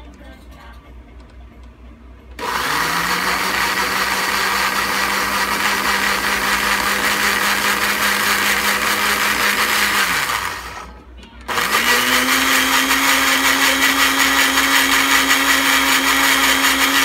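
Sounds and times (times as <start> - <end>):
electric blender motor running: 2.4 - 17.0.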